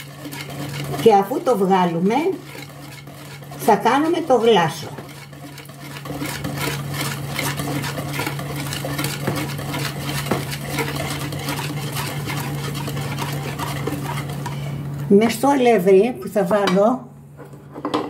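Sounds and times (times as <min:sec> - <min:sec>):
wire whisk beating batter: 0:00.0 - 0:14.8.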